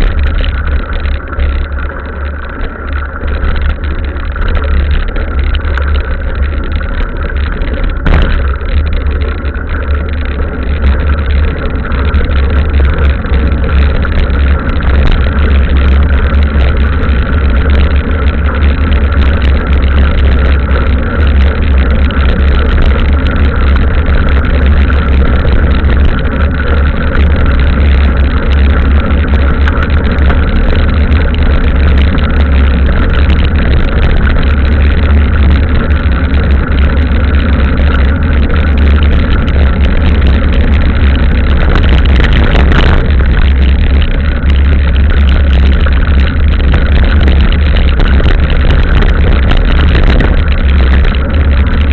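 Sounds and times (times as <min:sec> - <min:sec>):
wind on microphone: 0:00.0 - 0:51.9.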